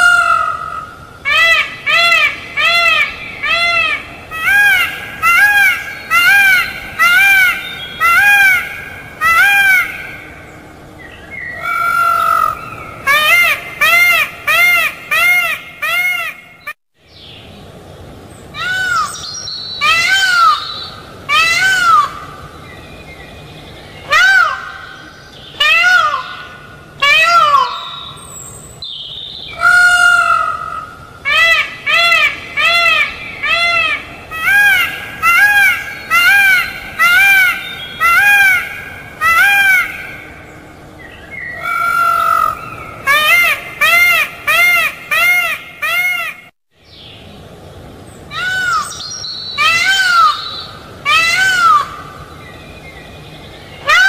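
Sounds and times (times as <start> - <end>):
peafowl calling: 0.0 - 16.8, 18.5 - 22.7, 23.9 - 46.5, 48.2 - 54.0.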